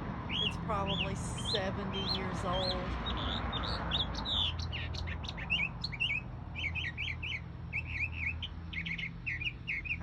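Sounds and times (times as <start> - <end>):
songbird chirping: 0.2 - 10.0.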